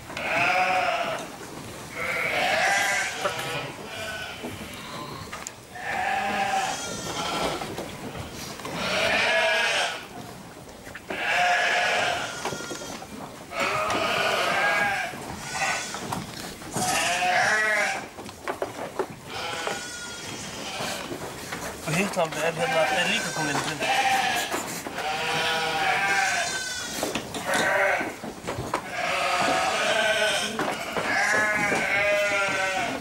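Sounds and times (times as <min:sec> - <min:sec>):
sheep bleating: 0:00.2 - 0:01.3, 0:01.9 - 0:07.7, 0:08.7 - 0:10.1, 0:11.1 - 0:16.1, 0:16.7 - 0:18.1, 0:19.3 - 0:21.1, 0:21.9 - 0:28.2, 0:28.8 - 0:33.0.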